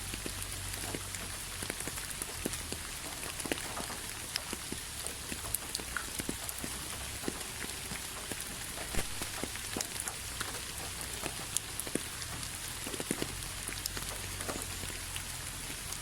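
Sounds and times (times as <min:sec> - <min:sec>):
raindrops tapping on a surface: 0:00.0 - 0:16.0
steady rain hiss: 0:00.0 - 0:16.0.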